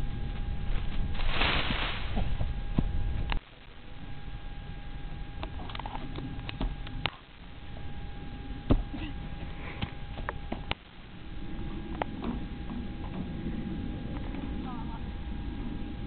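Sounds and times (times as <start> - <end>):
low microphone rumble: 0.0 - 16.0
faint steady tone: 2.4 - 16.0.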